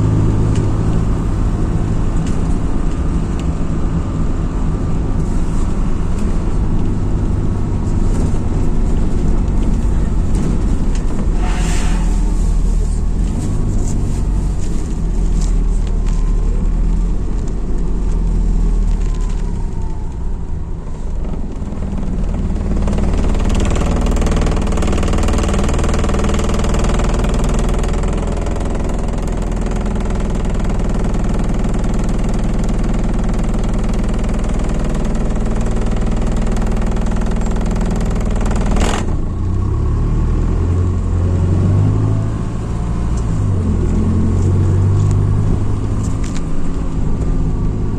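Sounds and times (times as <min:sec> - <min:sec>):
bus engine hum: 0:00.0 - 0:47.9.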